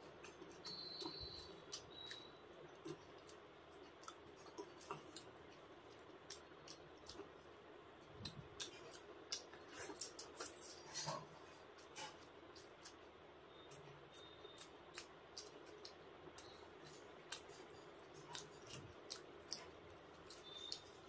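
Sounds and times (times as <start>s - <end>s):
chewing mouth clicks and smacks: 0.0s - 7.4s, 8.0s - 13.0s, 13.7s - 21.0s.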